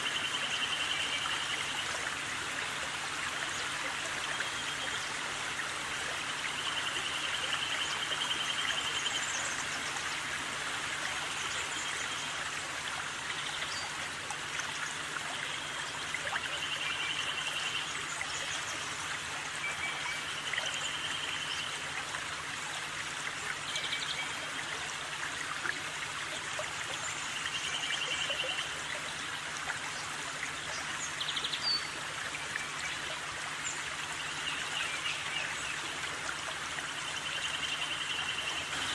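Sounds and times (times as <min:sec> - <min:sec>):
rushing stream-like noise: 0:00.0 - 0:38.9.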